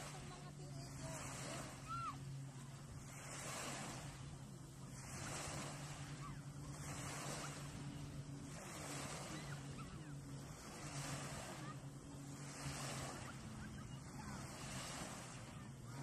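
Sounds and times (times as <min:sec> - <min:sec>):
small waves washing on sand: 0:00.0 - 0:16.0
steady low hum: 0:00.0 - 0:16.0.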